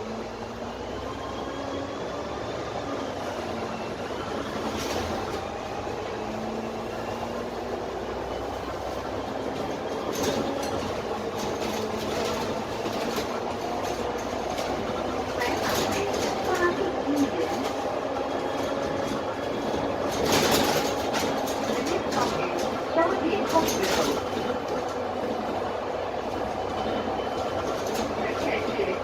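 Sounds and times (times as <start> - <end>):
bus diesel engine running: 0.0 - 29.0
bus body rattling: 3.2 - 29.0.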